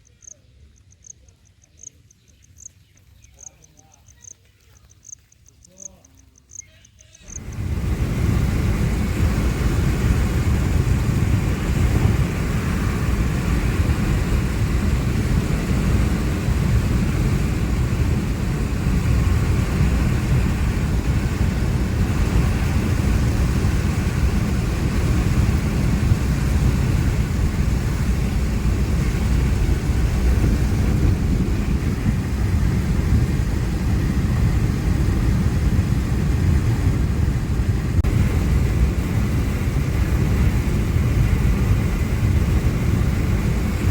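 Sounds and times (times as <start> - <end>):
wind and road noise: 7.2 - 43.9.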